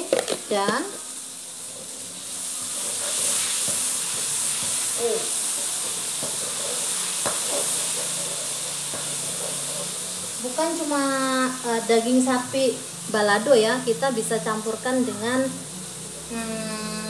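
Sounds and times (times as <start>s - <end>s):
spice paste sizzling in oil: 0.0s - 17.0s.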